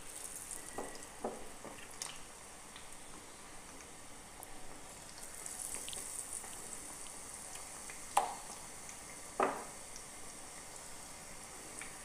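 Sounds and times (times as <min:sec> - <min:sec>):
potato slices deep-frying in oil: 0:00.0 - 0:12.0.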